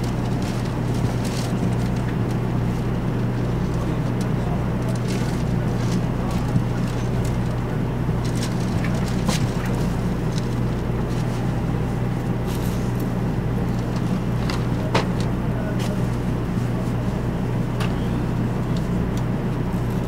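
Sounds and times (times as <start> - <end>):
low hum of train equipment: 0.0 - 20.0.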